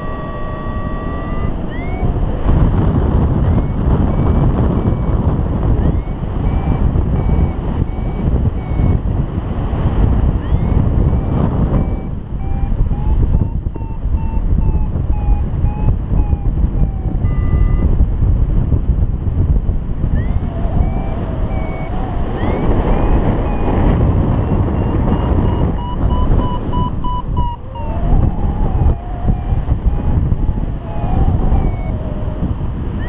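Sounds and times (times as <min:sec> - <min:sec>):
variometer beeping: 0:00.0 - 0:18.1, 0:20.0 - 0:33.0
wind rush on microphone: 0:00.0 - 0:33.0.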